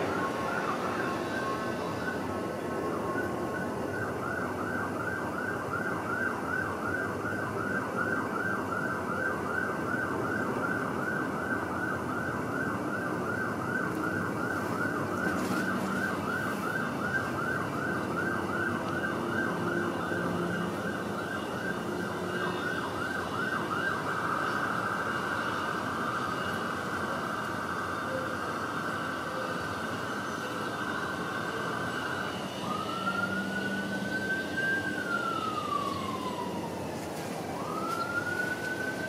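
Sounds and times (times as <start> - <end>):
siren-like whooping tone: 0.0 - 39.0.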